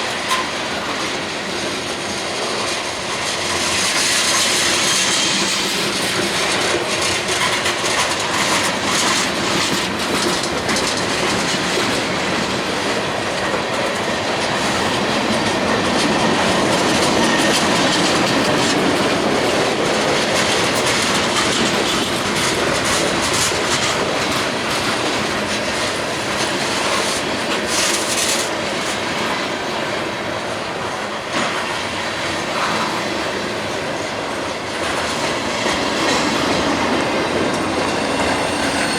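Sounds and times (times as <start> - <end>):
train wheels on rails: 0.0 - 38.9
wheels clacking over rail joints: 0.0 - 38.9.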